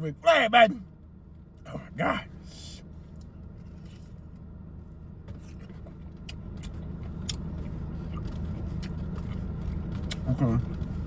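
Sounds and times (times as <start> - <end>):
car idling from inside cabin: 0.0 - 11.0.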